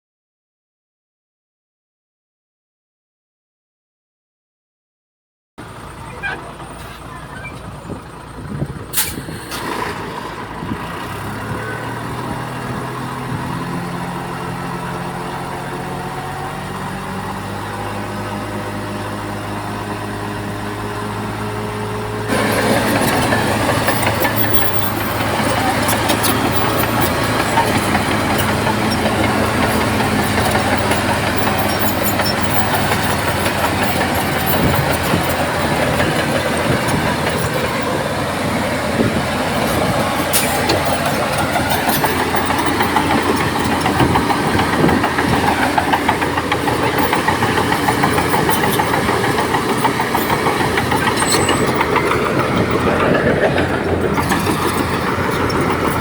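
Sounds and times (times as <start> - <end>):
bulldozer diesel engine revving: 5.6 - 56.0.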